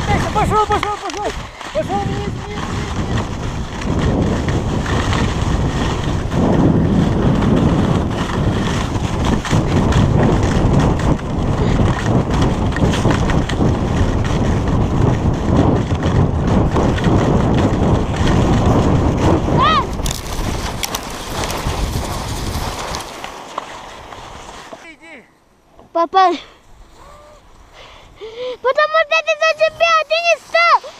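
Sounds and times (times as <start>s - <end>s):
wind buffeting microphone: 0.0s - 24.7s, 26.6s - 30.9s
skis scraping over snow: 0.0s - 25.1s, 26.8s - 30.9s.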